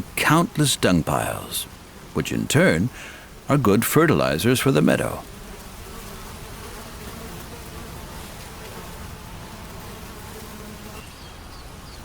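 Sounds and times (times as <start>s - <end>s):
flies buzzing: 0.0s - 12.0s.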